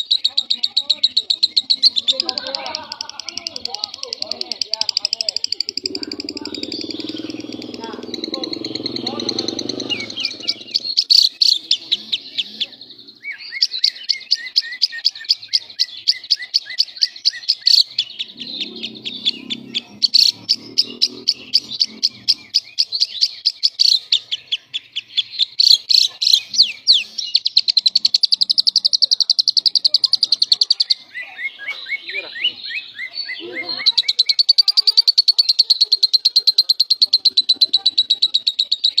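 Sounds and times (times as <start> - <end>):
lovebird chattering song: 0.0 - 39.0.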